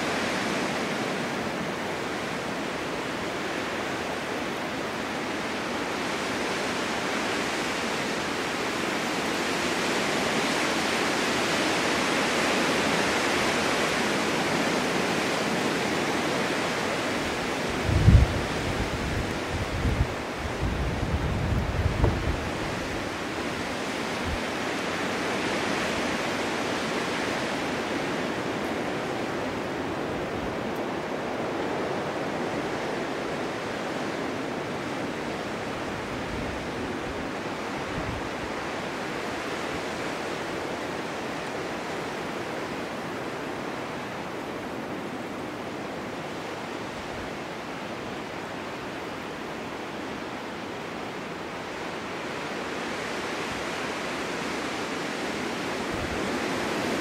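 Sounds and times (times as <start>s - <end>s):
wind rushing through forest: 0.0s - 57.0s.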